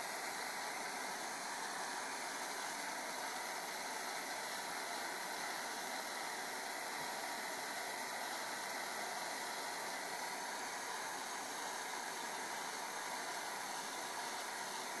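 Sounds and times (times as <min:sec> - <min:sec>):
blow torch flame hissing: 0:00.0 - 0:15.0.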